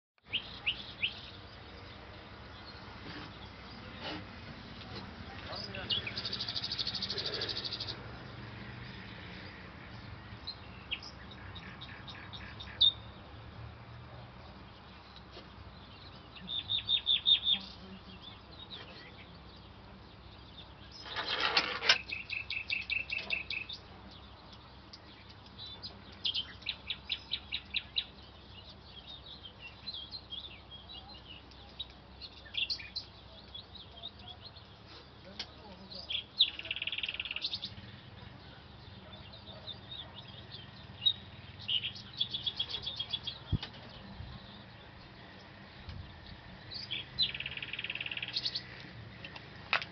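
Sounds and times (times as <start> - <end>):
small birds chirping and singing: 0.2 - 49.9.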